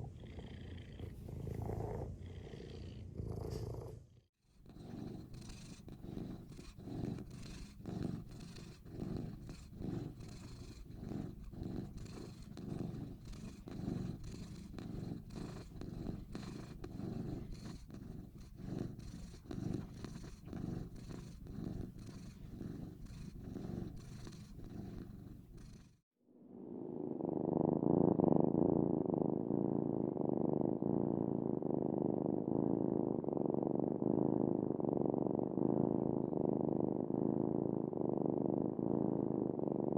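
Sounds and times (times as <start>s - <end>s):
cat purring: 0.0s - 39.9s
muffled purr: 0.0s - 39.9s.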